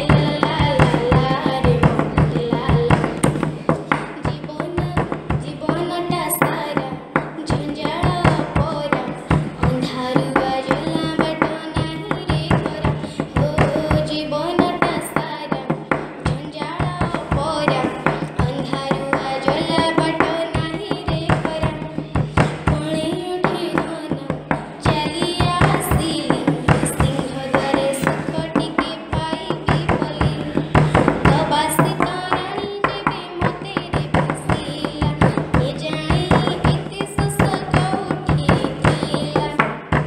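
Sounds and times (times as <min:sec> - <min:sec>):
girl singing devotional song: 0:00.0 - 0:40.0
hand drum beating: 0:00.0 - 0:40.0.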